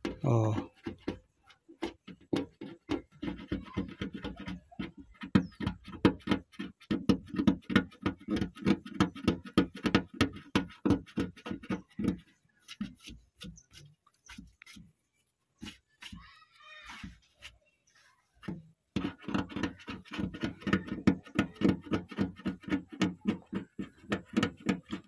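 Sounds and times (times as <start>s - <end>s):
fingernail scraping painted metal: 0.0s - 25.0s.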